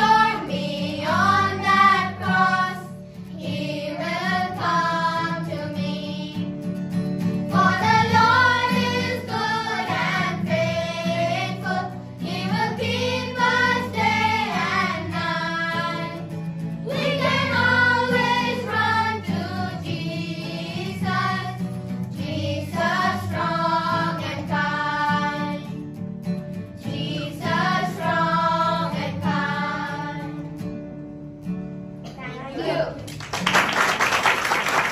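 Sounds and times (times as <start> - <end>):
children's choir singing: 0.0 - 6.6, 7.5 - 25.8, 26.8 - 30.6.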